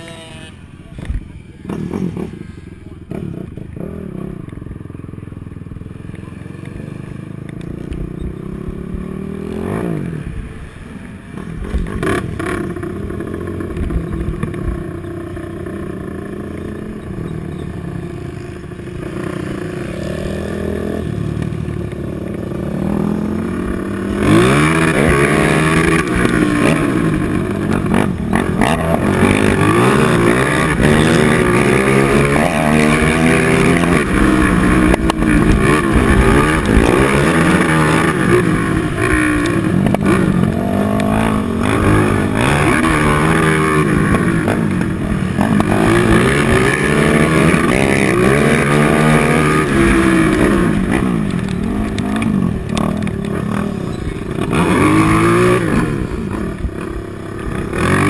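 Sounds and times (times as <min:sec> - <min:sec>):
quad engine revving: 0:00.0 - 0:04.5, 0:06.0 - 0:10.6, 0:11.4 - 0:58.0.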